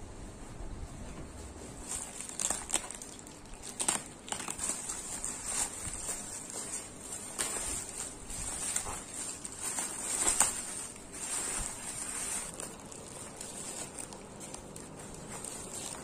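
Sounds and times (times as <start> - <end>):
plastic bag crinkling: 1.8 - 16.0.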